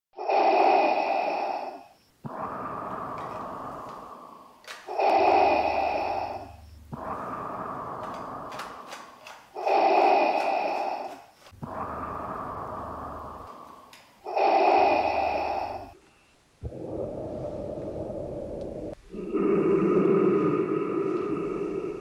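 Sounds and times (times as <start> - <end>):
heavy breathing: 0.2 - 16.0, 16.6 - 22.0.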